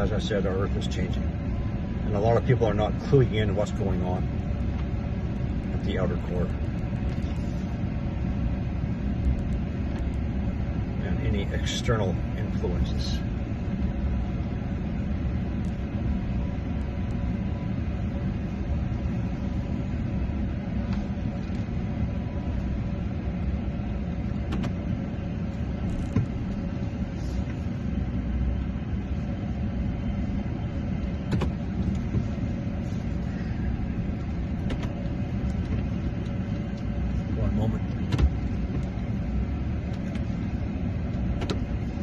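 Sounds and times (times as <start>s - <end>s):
faint steady hum: 0.0s - 42.0s
steady low rumble: 0.0s - 42.0s.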